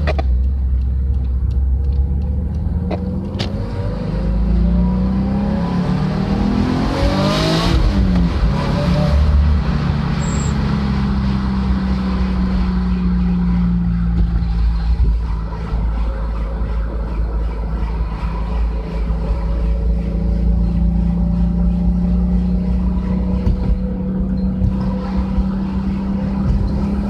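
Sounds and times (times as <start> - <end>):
car engine and exhaust revving: 0.0 - 27.0.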